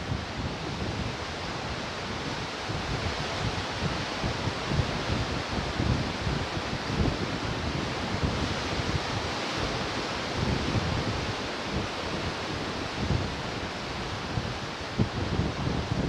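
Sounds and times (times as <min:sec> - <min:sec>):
wind buffeting microphone: 0:00.0 - 0:16.0
ocean surf washing in: 0:00.1 - 0:16.0.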